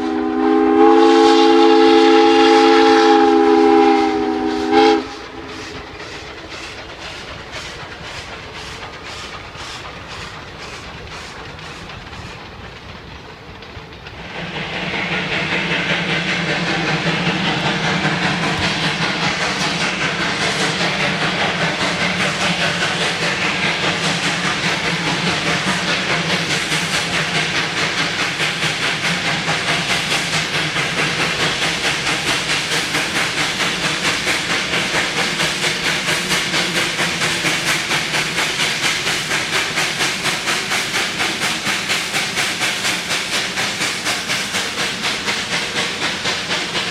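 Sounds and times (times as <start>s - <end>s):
steam hiss: 0.0s - 46.9s
steam locomotive chuffing: 0.0s - 46.9s.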